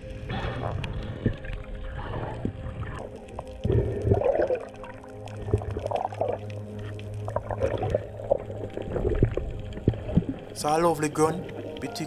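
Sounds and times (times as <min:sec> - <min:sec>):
underwater sloshing and bubbling: 0:00.0 - 0:12.0.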